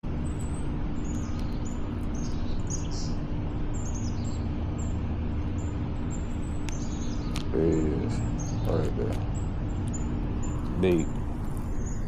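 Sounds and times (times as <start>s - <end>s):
faint hum: 0.0s - 12.0s
small birds chirping: 0.0s - 12.0s
steady low rumble: 0.1s - 12.0s.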